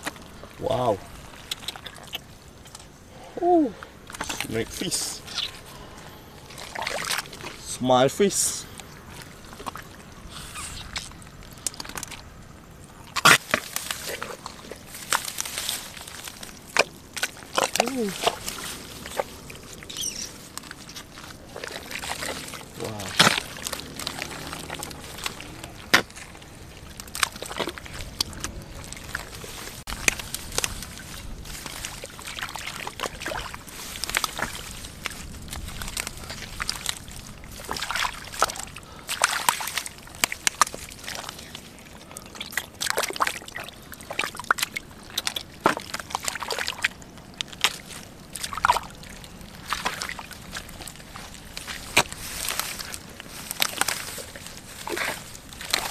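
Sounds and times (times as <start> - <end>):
wet mud squelching: 0.0 - 55.9.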